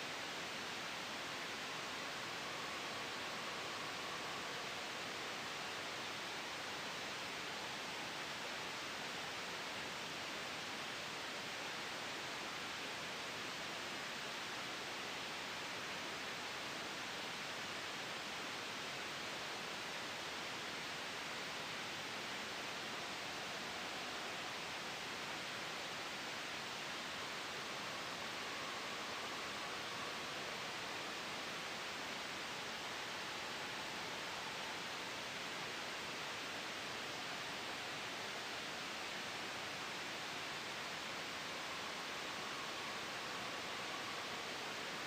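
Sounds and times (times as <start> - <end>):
steady white noise hiss: 0.0 - 45.0.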